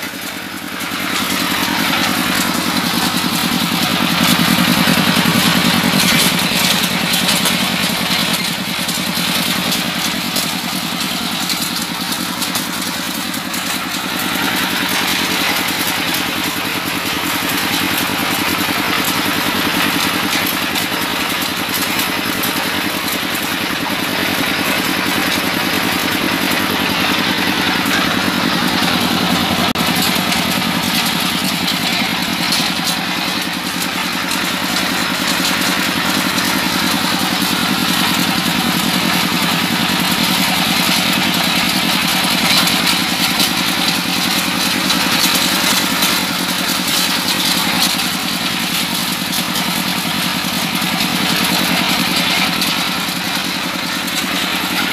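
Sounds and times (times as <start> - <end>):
grinding machine: 0.0 - 54.9
stationary diesel engine running: 0.0 - 54.9.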